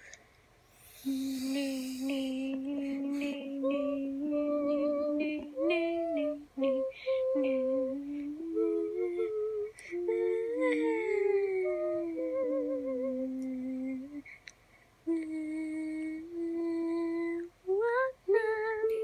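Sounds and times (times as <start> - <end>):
person humming a slow tune: 0.8 - 14.4, 15.1 - 19.0.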